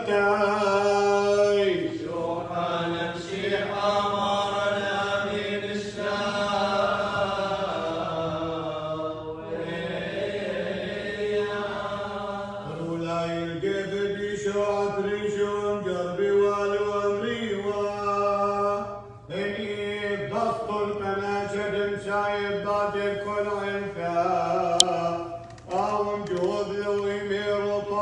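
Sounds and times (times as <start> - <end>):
liturgical chanting: 0.0 - 28.0.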